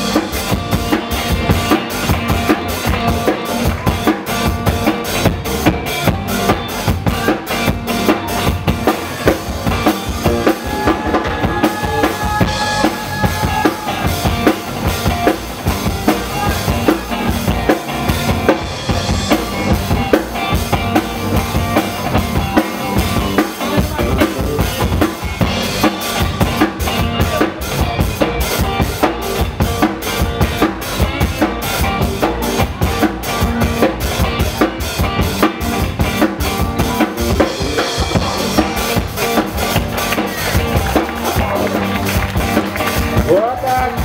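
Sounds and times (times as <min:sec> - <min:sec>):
drum kit beat: 0:00.0 - 0:44.0
funk music: 0:00.0 - 0:44.0.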